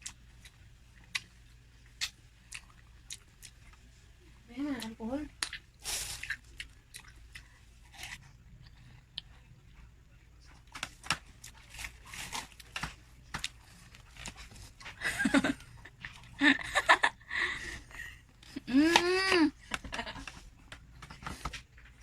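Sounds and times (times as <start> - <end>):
crunchy chewing of watermelon: 0.0 - 4.1, 4.7 - 22.0.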